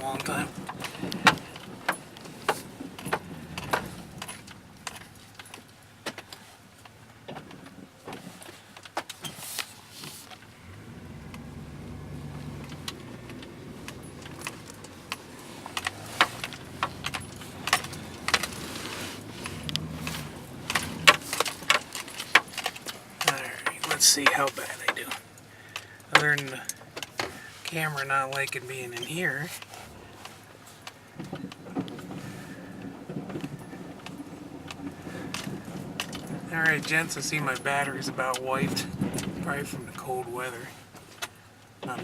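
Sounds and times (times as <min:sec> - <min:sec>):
sharp clicks and jangling rattles: 0:00.0 - 0:07.8, 0:10.9 - 0:42.0
truck engine running: 0:00.0 - 0:08.8, 0:09.7 - 0:42.0.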